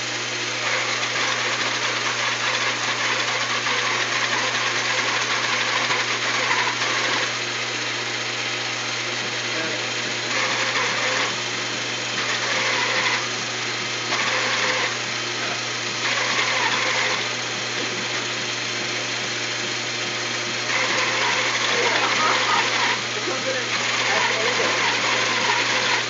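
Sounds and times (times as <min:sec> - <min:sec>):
small electric motor spinning: 0:00.0 - 0:26.0.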